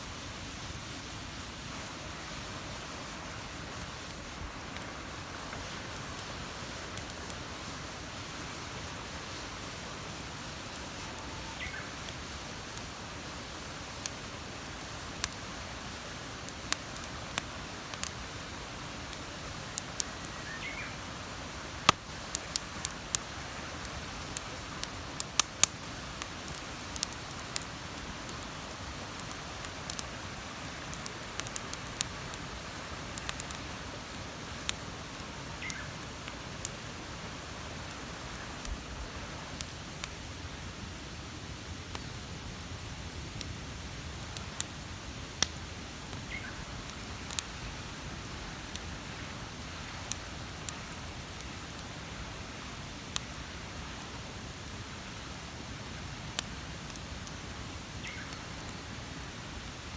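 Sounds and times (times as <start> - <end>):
wood fire crackling: 0.7 - 59.9.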